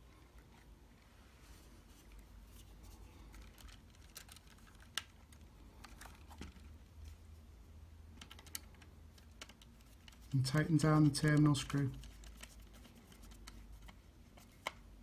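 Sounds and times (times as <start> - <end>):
copper wires clicking and scraping: 1.9 - 7.2, 8.1 - 15.0.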